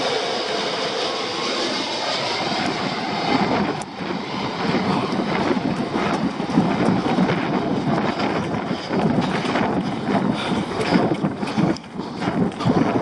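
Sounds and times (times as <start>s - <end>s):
jet engine roar: 0.0s - 13.0s
wind on microphone: 0.0s - 13.0s.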